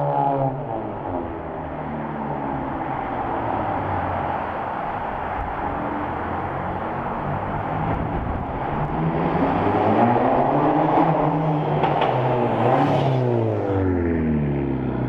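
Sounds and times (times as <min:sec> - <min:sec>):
car exhaust accelerating: 0:00.0 - 0:15.0
road and wind noise: 0:00.0 - 0:15.0.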